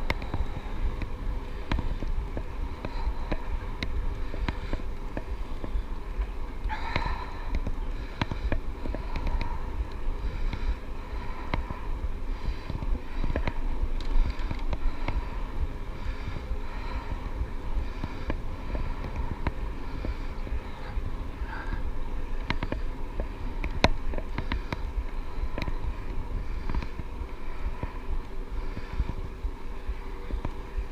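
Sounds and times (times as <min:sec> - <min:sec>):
electric bike riding: 0:00.0 - 0:30.9
wind rumble on microphone: 0:00.0 - 0:30.9.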